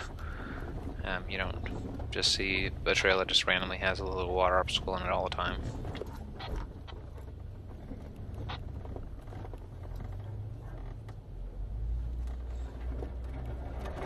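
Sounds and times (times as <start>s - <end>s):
engine and drivetrain rumble: 0.0s - 14.0s.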